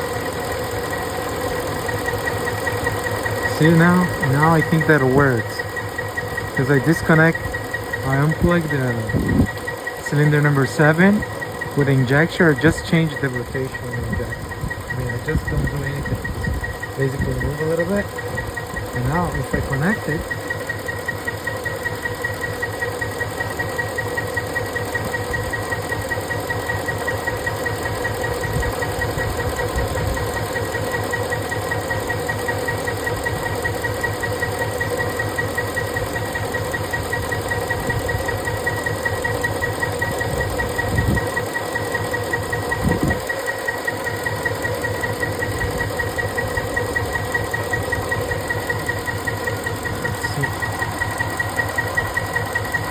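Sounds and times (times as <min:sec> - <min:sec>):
engine idling with whine: 0:00.0 - 0:52.9.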